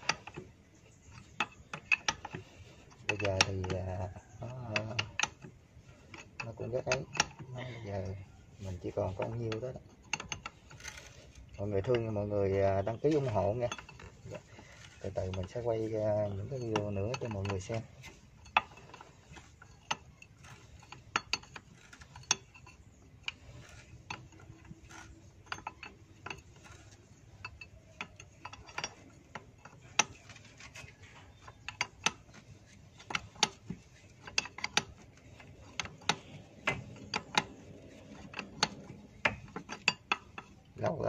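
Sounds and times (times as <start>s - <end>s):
wrench clicking and scraping on nut: 0.0s - 41.0s.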